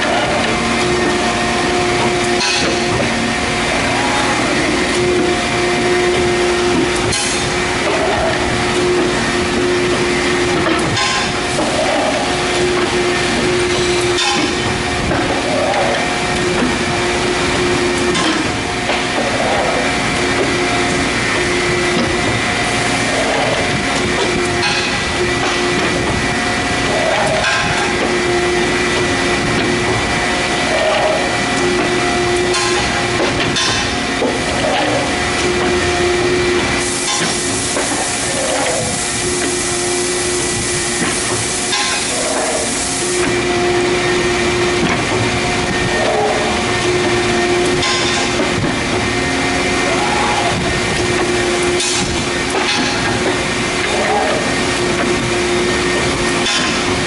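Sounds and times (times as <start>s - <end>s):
punching machine humming: 0.0s - 57.0s.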